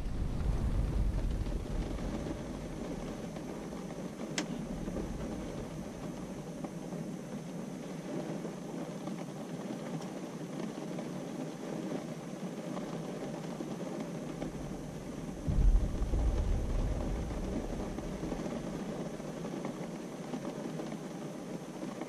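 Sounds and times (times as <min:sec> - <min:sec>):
steady low background noise: 0:00.0 - 0:22.0.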